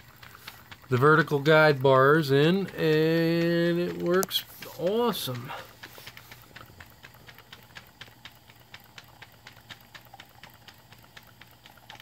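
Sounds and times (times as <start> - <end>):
model steam engine ticking: 0.0 - 12.0.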